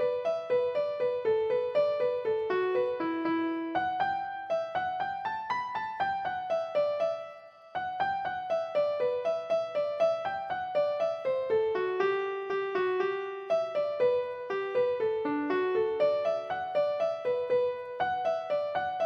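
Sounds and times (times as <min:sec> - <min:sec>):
quick piano melody: 0:00.0 - 0:19.0.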